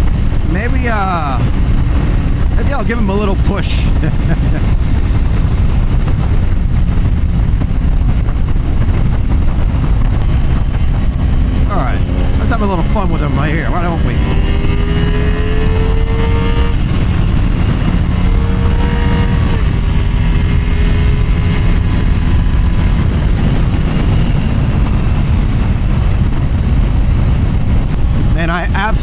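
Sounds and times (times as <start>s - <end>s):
motorcycle engine accelerating: 0.0s - 29.0s
wind rumble on microphone: 0.0s - 29.0s.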